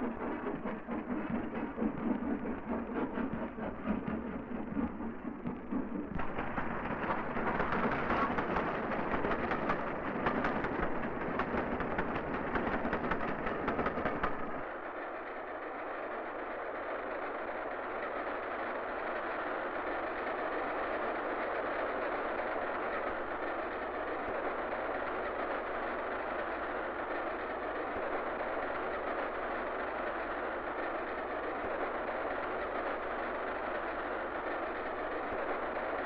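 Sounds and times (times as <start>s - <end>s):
steam train running: 0.0s - 36.0s.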